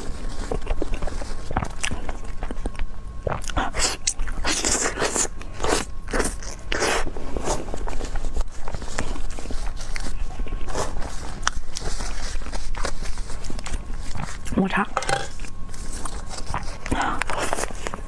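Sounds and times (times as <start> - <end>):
biting and wet chewing: 0.0 - 18.0.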